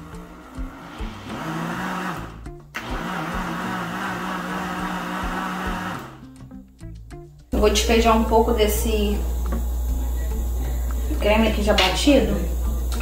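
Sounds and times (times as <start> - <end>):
countertop blender running: 0.0 - 6.2, 7.6 - 13.0.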